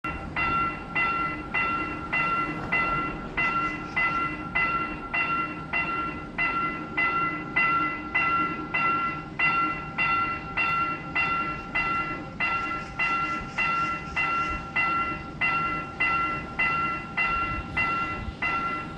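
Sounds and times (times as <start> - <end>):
level crossing warning bell: 0.0 - 18.9.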